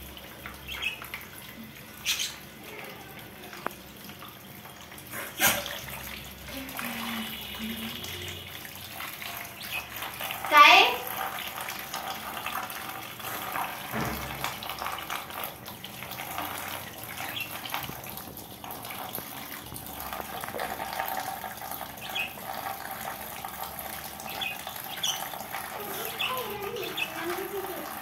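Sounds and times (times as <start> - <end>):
water splashing on wire cage: 3.7 - 28.0.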